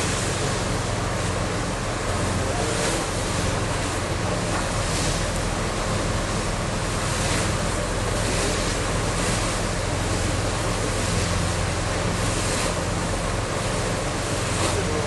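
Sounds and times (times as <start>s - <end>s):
low ship hum: 0.0s - 15.0s.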